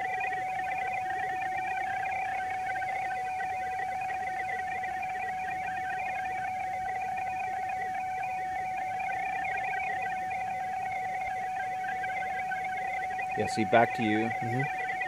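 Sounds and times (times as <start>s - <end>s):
steady radio tone: 0.0s - 15.0s.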